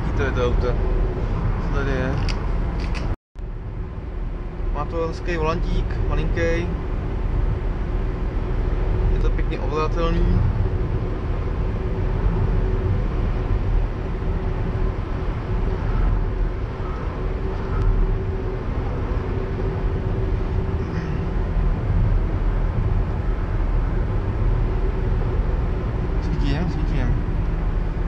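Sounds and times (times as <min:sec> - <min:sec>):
engine drone: 0:00.0 - 0:28.0
tyre and road rumble: 0:00.0 - 0:28.0.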